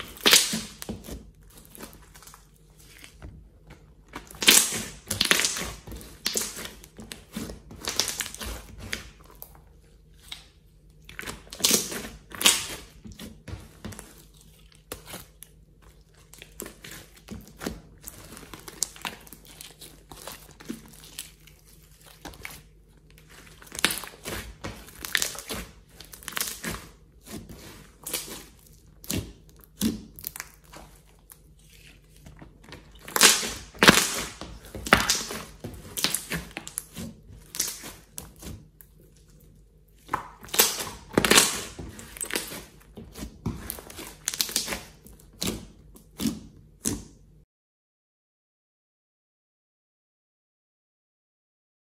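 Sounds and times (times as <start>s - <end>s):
wet sticky slime squelches: 0.0s - 47.4s.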